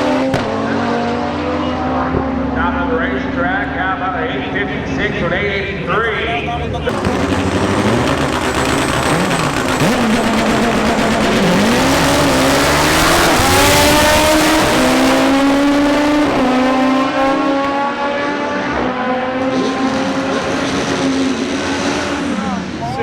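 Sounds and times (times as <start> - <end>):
drag car accelerating hard: 0.0 - 5.7, 6.5 - 23.0.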